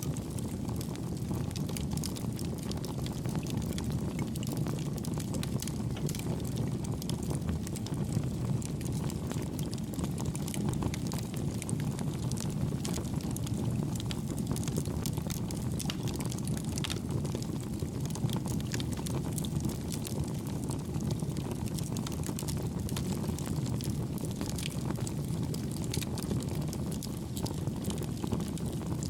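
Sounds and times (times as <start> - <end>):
campfire flames rumbling: 0.0 - 29.0
fire crackles and pops: 0.0 - 29.0.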